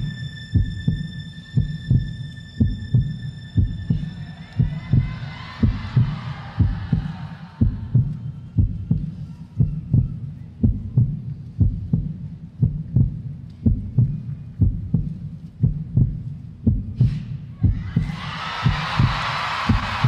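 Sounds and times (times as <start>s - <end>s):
low bass thumps: 0.0s - 20.0s.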